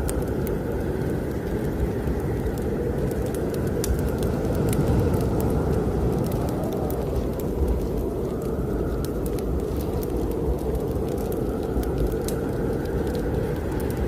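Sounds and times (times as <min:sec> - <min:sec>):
snowstorm wind blowing: 0:00.0 - 0:14.0
wood fire crackling and popping: 0:00.0 - 0:14.0.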